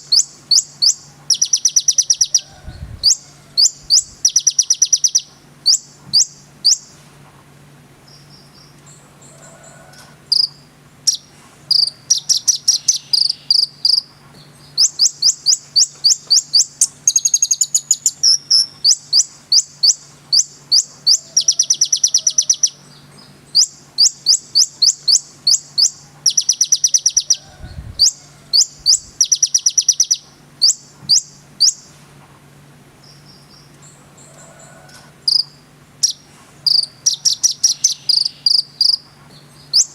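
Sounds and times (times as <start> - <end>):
bird chirping trills: 0.0 - 7.0, 10.3 - 27.4, 28.0 - 31.9, 35.2 - 39.9
faint low hum: 0.0 - 39.9.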